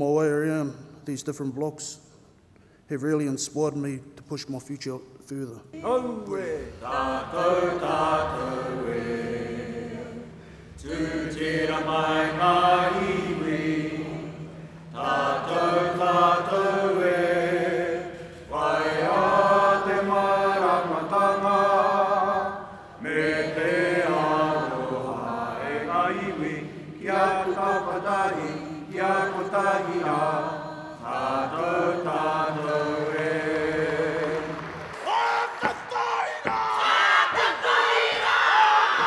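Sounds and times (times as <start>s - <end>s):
group of voices singing a chant: 5.8s - 39.0s.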